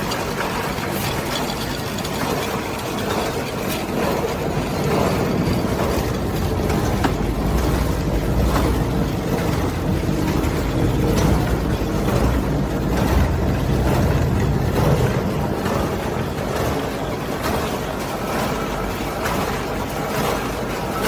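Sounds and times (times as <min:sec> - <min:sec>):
machine mechanical clatter: 0:00.0 - 0:21.0.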